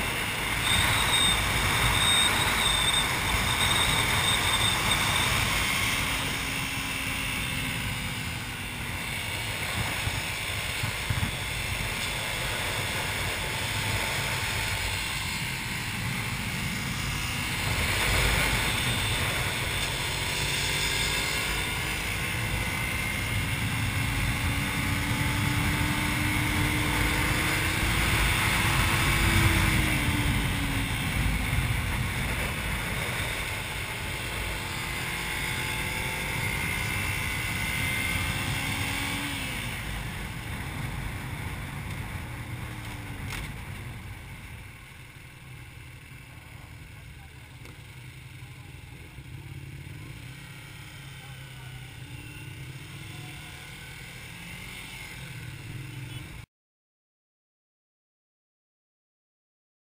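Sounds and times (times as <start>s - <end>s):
motorcycle engine running: 0.0s - 56.4s.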